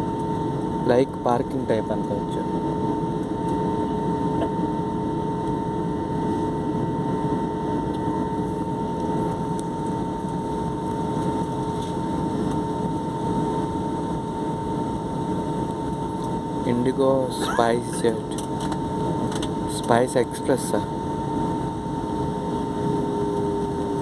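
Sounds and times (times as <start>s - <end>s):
jet engine rumble: 0.0s - 24.0s.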